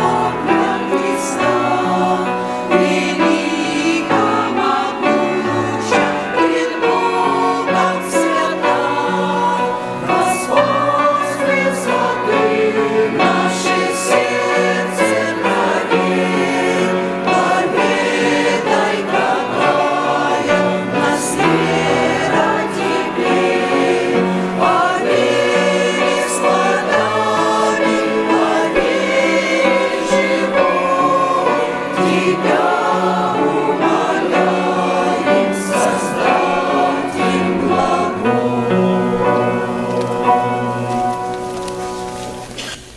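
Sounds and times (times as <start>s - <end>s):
choir singing a hymn: 0.0s - 42.8s.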